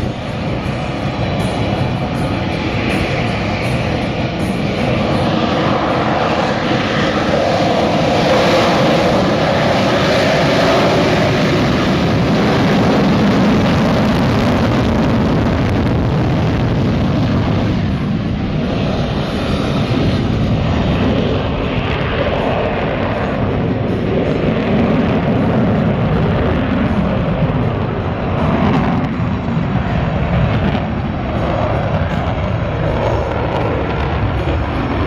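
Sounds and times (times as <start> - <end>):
fighter jet flying overhead: 0.0 - 35.0.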